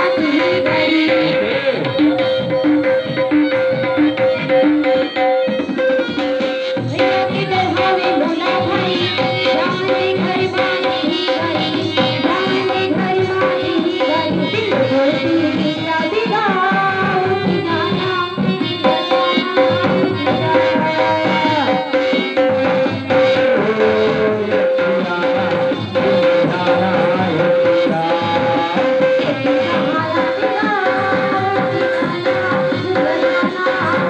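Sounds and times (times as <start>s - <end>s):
hand drum playing busy rhythm: 0.0s - 34.0s.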